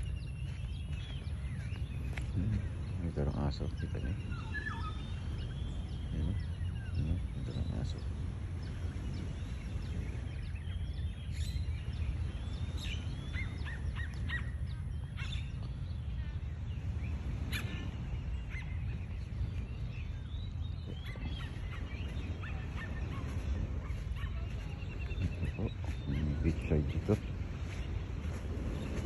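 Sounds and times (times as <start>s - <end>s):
birds chirping: 0.0s - 29.0s
steady low rumble: 0.0s - 29.0s.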